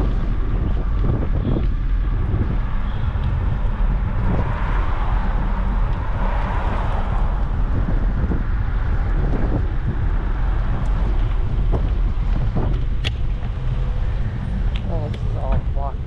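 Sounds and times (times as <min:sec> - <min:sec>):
vehicle passing: 0:00.0 - 0:16.0
wind buffeting microphone: 0:00.0 - 0:16.0.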